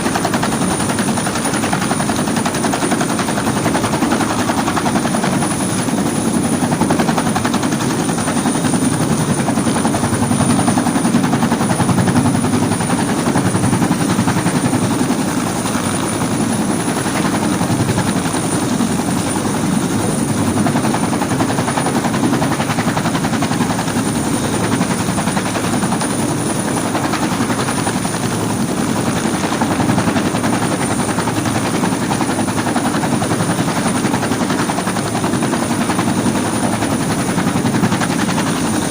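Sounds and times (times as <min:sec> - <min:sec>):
helicopter rotor: 0:00.0 - 0:38.9.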